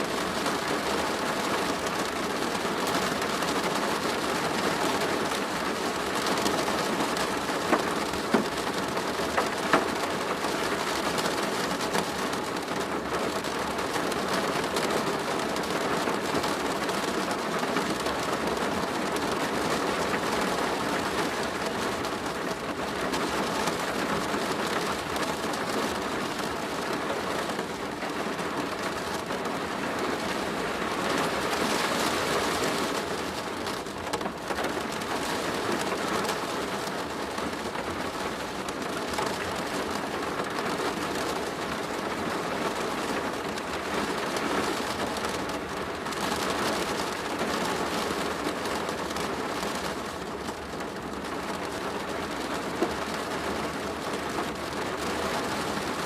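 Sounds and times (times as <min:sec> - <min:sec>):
heavy rain on plastic roof: 0:00.0 - 0:56.0.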